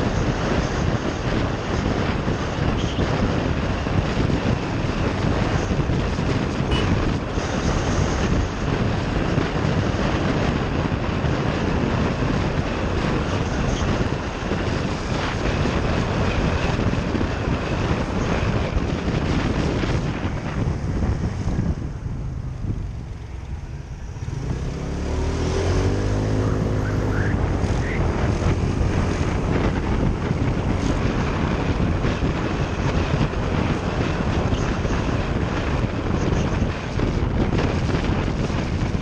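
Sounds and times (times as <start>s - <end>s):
motorcycle engine: 0.0s - 39.0s
wind buffeting microphone: 0.0s - 39.0s.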